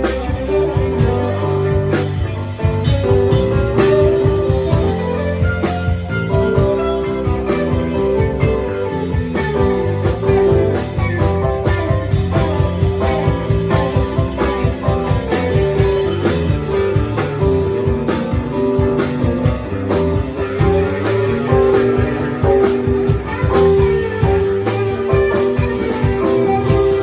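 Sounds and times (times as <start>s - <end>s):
blues-rock band playing: 0.0s - 27.0s
electric guitar: 0.0s - 27.0s
steady drum beat: 0.0s - 27.0s.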